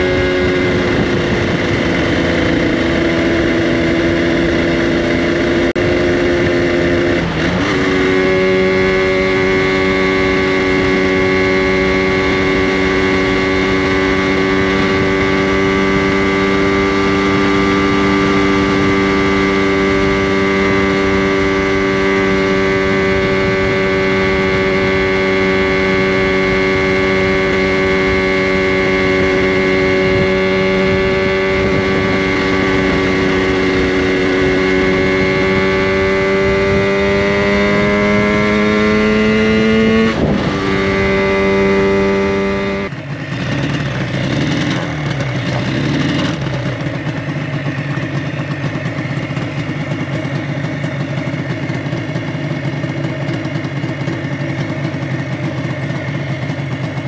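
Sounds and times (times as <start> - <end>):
two-stroke motorcycle engine: 0.0 - 57.0.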